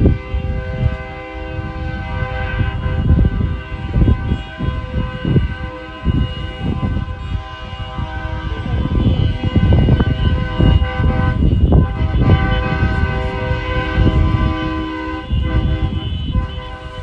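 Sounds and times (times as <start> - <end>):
vehicle horns sounding: 0.0 - 17.0.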